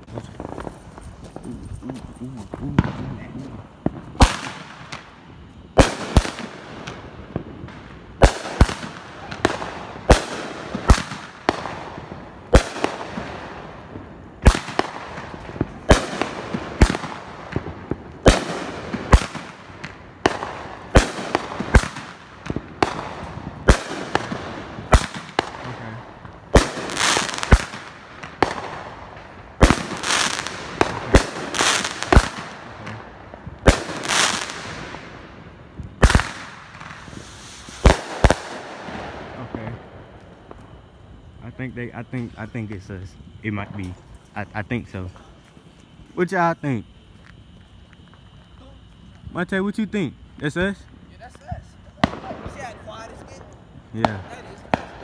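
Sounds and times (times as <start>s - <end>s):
firework bangs: 0.0s - 46.0s, 50.7s - 55.0s.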